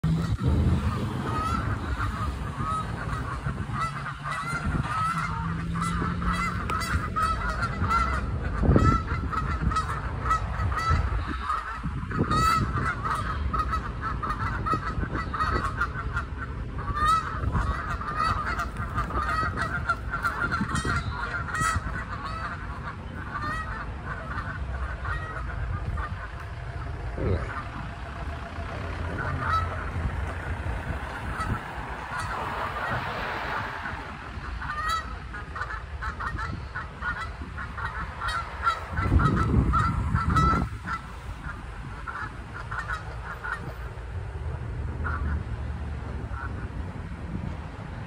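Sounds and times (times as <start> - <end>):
geese honking: 0.0 - 44.0, 45.0 - 46.8.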